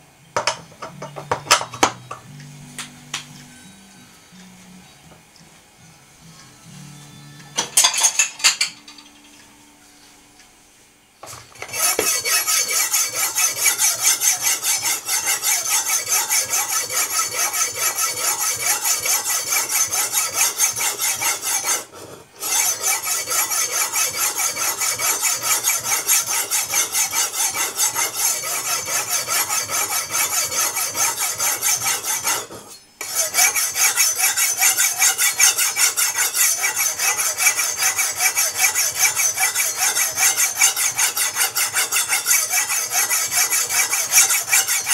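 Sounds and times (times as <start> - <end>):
knife scraping on ceramic rods: 0.4 - 2.0, 7.6 - 9.4, 11.2 - 44.9.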